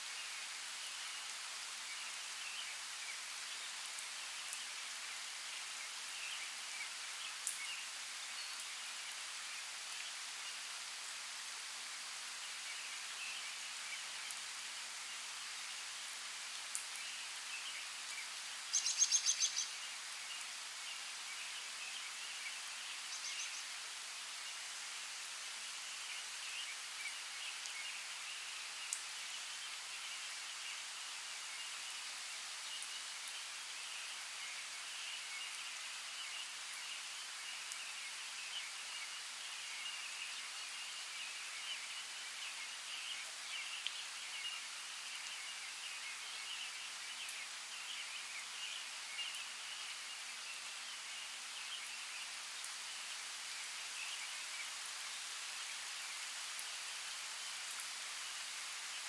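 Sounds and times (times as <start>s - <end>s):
steady hiss like light rain: 0.0s - 59.0s.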